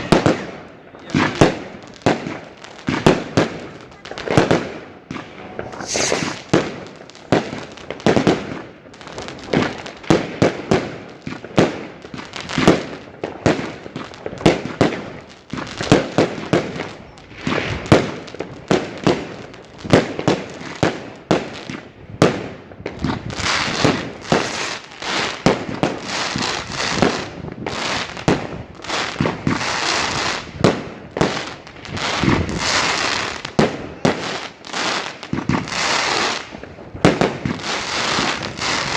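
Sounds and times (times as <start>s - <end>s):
firework bangs: 0.0s - 38.9s
firework crackling: 0.0s - 38.9s.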